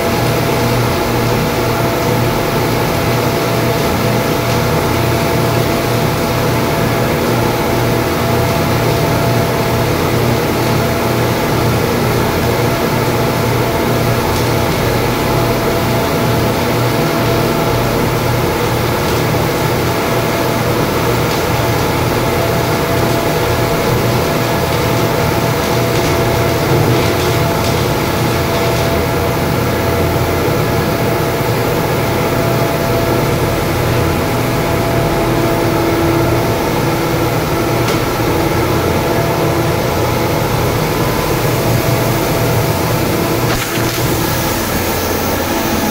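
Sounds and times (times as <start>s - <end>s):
industrial machinery drone: 0.0s - 45.9s.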